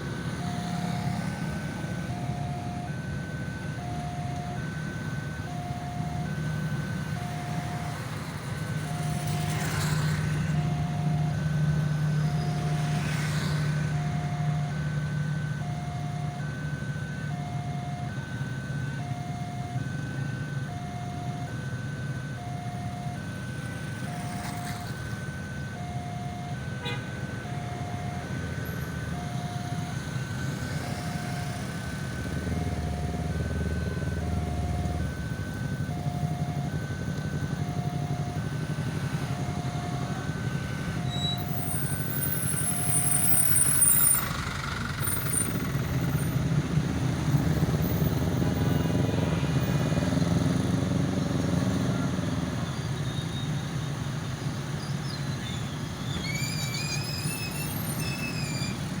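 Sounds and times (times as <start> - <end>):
two-tone electronic alarm beeping: 0.0 - 49.0.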